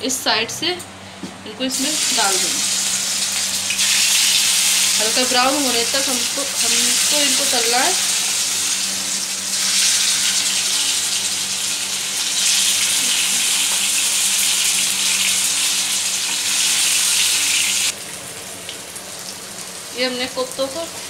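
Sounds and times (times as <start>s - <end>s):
food frying in hot oil: 1.7s - 21.0s.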